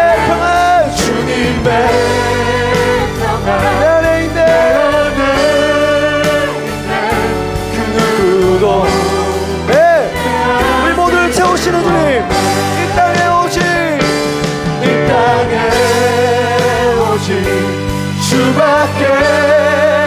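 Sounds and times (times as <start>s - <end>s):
live band playing: 0.0s - 20.0s
person singing with vibrato: 0.0s - 20.0s.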